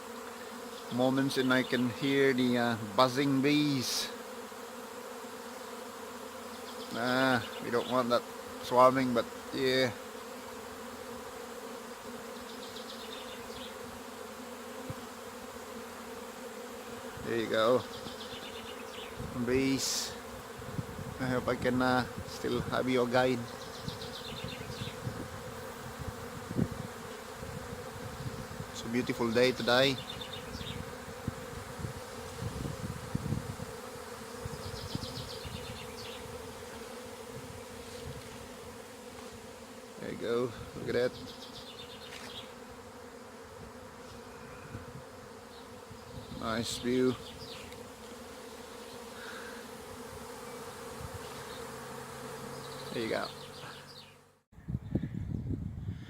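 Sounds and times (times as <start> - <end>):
bee swarm buzzing: 0.0 - 54.5.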